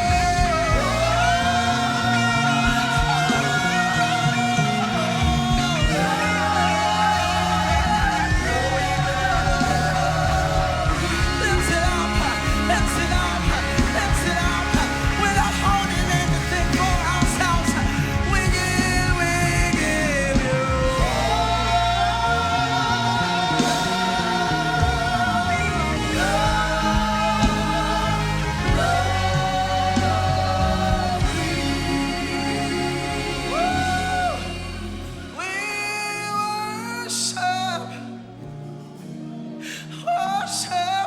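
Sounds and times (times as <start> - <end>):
band with bass and drums: 0.0 - 35.7
group of singers: 0.0 - 41.0.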